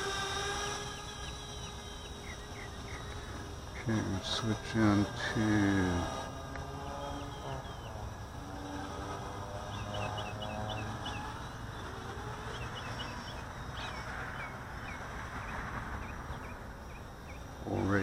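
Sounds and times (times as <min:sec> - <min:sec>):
birds chirping: 0:00.0 - 0:18.0
drone motors humming: 0:00.0 - 0:18.0.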